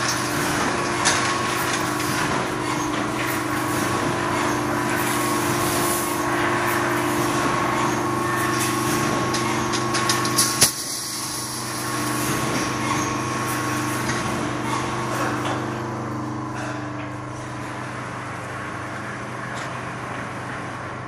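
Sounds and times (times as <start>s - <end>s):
welding machine hum: 0.0s - 21.0s.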